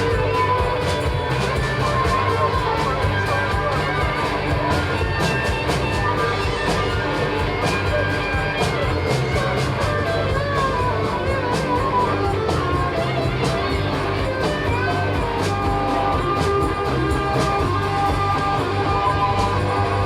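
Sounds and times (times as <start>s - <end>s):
drum and cymbal hits: 0.0s - 20.0s
rock band playing instrumental: 0.0s - 20.0s.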